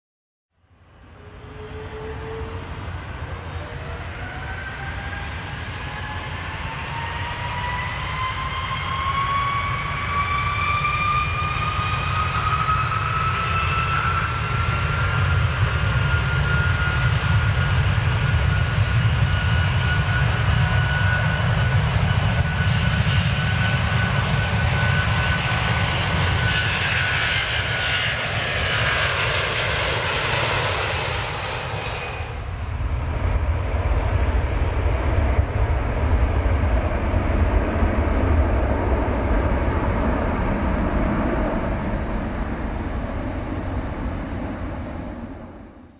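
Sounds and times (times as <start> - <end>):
jet engines spooling up: 1.1 - 45.9.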